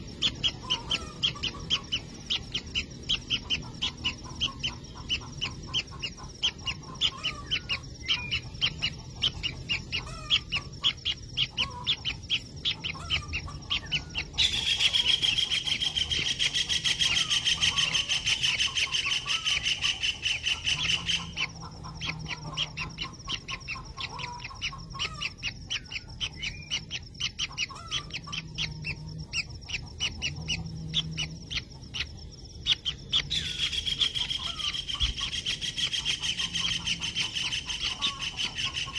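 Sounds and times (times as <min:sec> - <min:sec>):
nestlings begging calls: 0:00.0 - 0:38.9.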